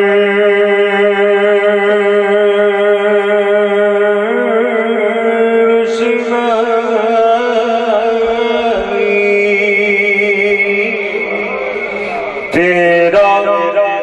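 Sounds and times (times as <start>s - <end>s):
man singing through loudspeaker: 0.0s - 14.0s.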